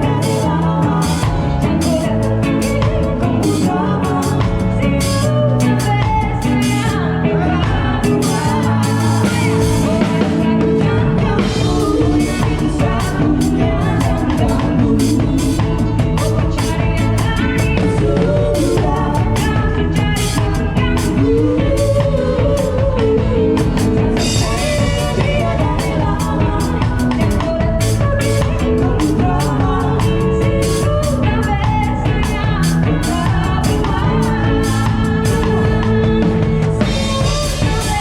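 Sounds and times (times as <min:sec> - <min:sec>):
drum kit: 0:00.0 - 0:38.0
live band playing: 0:00.0 - 0:38.0
person singing: 0:00.0 - 0:38.0.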